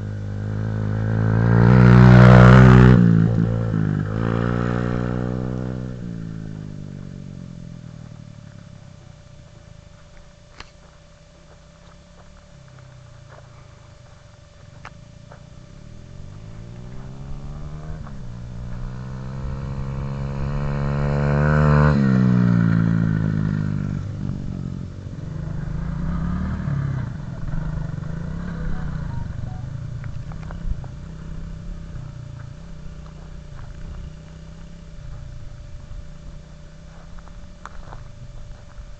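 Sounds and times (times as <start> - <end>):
off-road vehicle engine passing: 0.0 - 9.4, 11.8 - 38.4.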